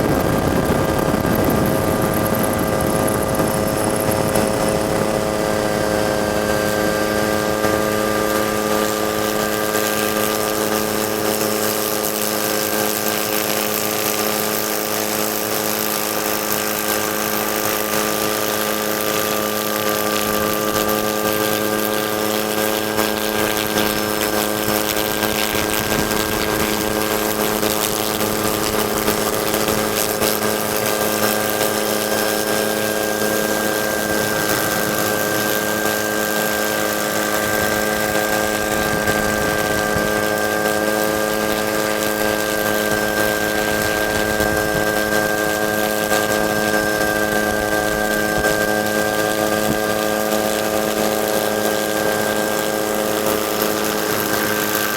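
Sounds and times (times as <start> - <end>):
helicopter turbine engine and rotor: 0.0 - 54.9.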